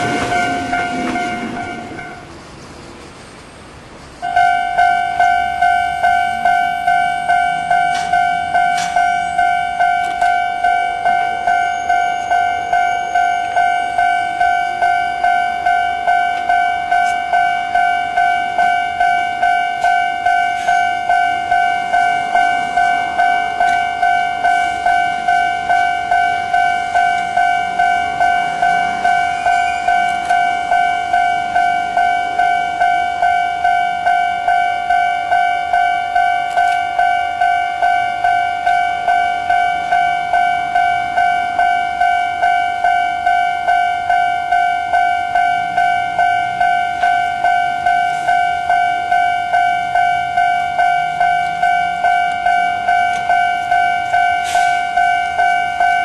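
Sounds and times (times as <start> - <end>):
level crossing warning bell: 0.0 - 2.3, 4.2 - 56.0.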